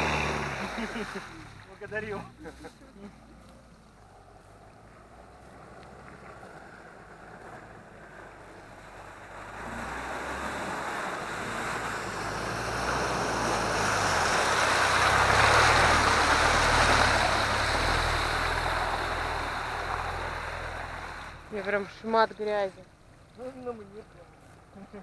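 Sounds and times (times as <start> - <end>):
water splashing: 0.0 - 2.6, 4.4 - 24.5
off-road vehicle engine labouring: 0.0 - 25.0.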